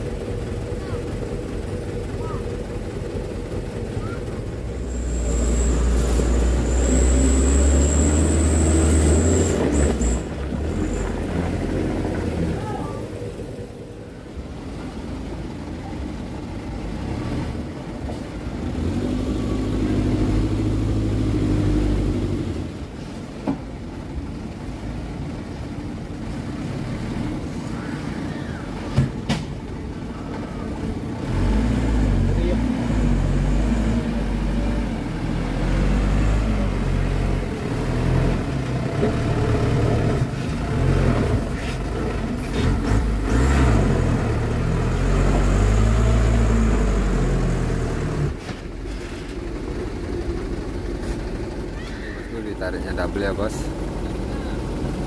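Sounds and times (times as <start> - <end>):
truck diesel engines revving: 0.0 - 55.0.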